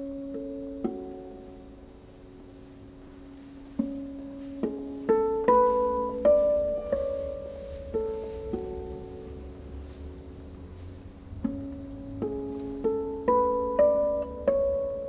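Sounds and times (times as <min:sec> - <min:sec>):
harp plucked notes ringing: 0:00.0 - 0:15.0.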